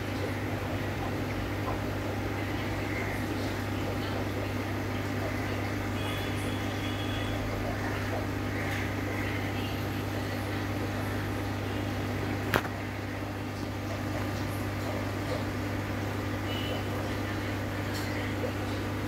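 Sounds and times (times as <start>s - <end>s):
electrical machinery humming: 0.0s - 19.0s.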